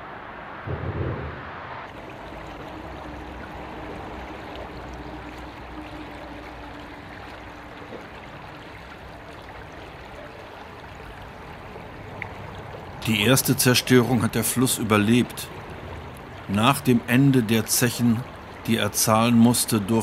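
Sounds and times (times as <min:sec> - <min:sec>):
river water flowing: 0:01.3 - 0:20.0.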